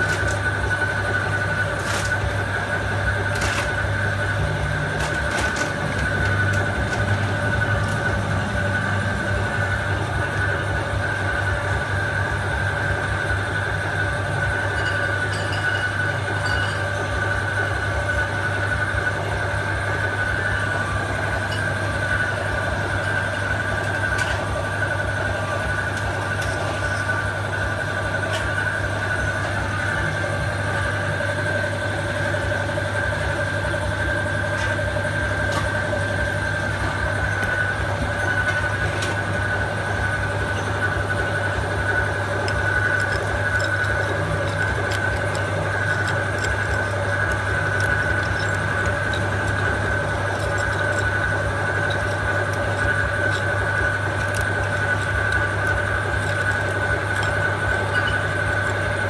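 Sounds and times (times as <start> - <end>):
mechanical drone: 0.0 - 59.0.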